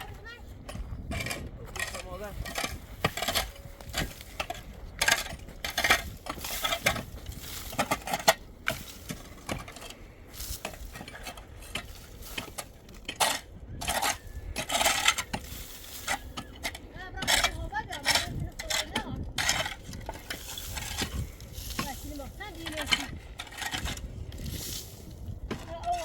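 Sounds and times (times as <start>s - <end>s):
hand tools scraping metal: 0.0s - 26.0s.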